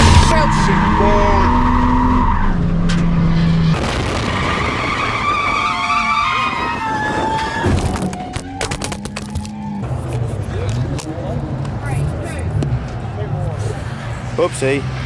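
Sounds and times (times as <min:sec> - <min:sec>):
car engine at high revs: 0:00.0 - 0:05.6, 0:06.5 - 0:15.0
tyres squealing and skidding: 0:00.0 - 0:15.0.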